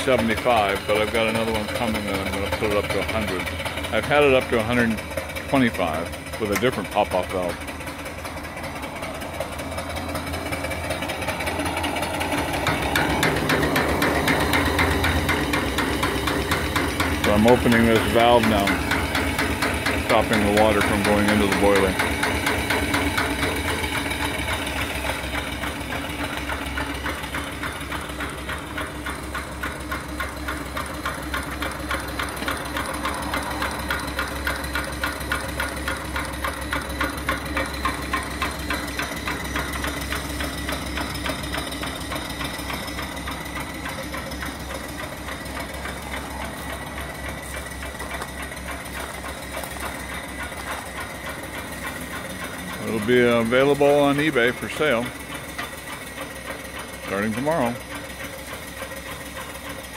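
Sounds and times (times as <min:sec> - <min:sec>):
steam engine beat of clicks: 0:00.0 - 0:59.9.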